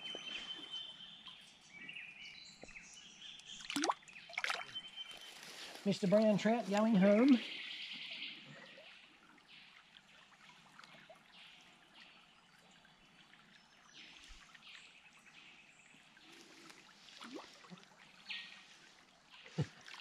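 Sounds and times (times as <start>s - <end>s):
shallow stream trickling: 0.0s - 20.0s.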